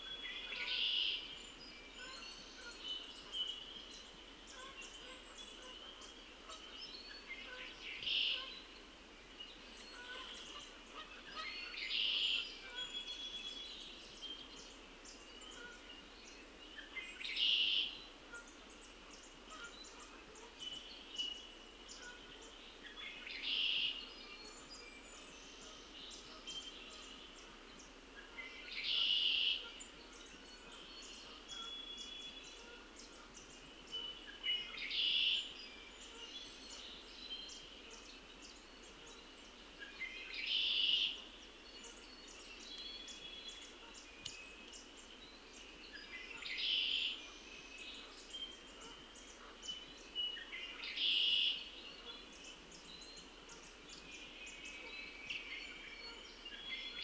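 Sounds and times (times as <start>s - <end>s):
songbird singing a phrase: 0.0s - 57.0s.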